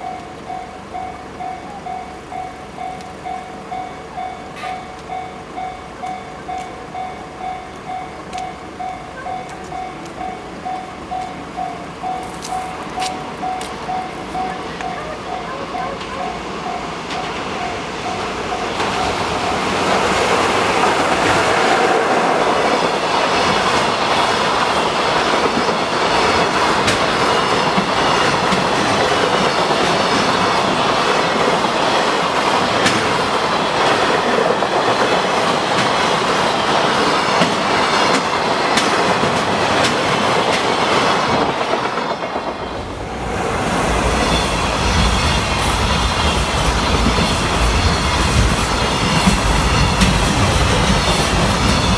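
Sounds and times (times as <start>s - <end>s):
freight train rumbling: 0.0s - 51.9s
wheels clacking over rail joints: 0.0s - 51.9s.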